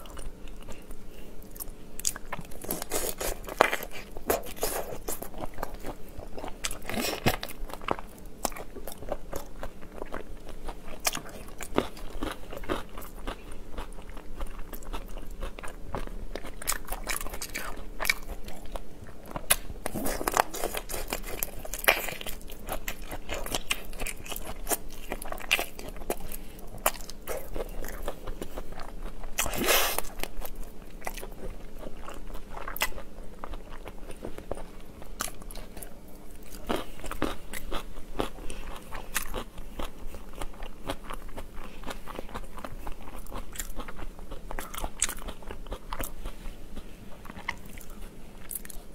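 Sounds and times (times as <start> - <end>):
crunching and chewing prawns: 0.0 - 48.9.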